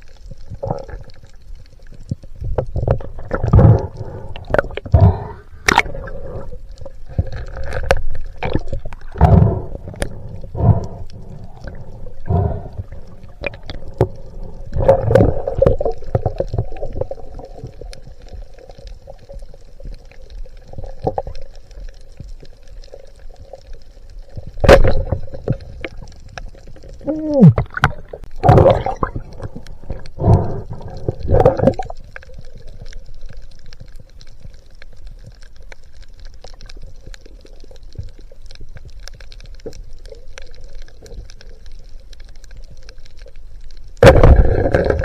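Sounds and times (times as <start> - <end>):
faint steady hum: 0.0 - 45.0
water gurgling and sloshing: 0.0 - 45.0.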